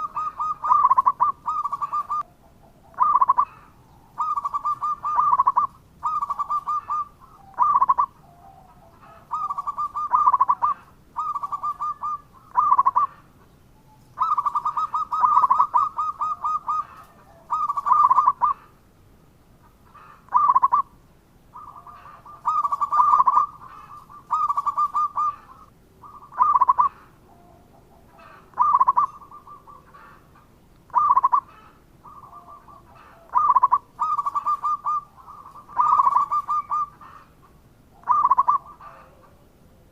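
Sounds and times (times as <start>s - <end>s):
dove cooing: 0.0s - 18.8s, 19.6s - 39.9s.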